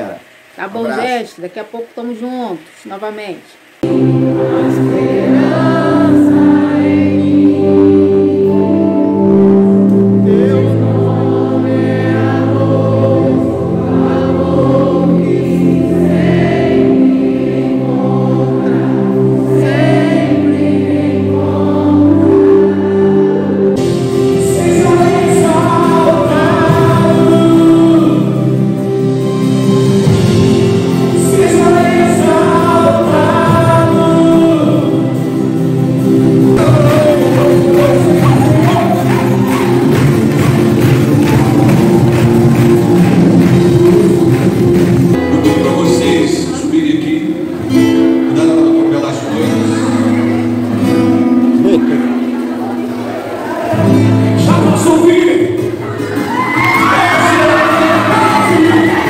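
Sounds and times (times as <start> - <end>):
worship band playing: 0.0 - 59.0
many voices singing together: 3.8 - 51.3, 51.9 - 59.0.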